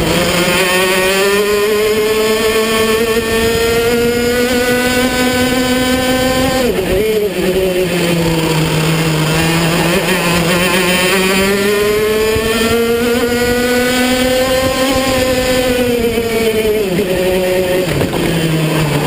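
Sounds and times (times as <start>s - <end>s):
kart engine revving: 0.0s - 19.0s.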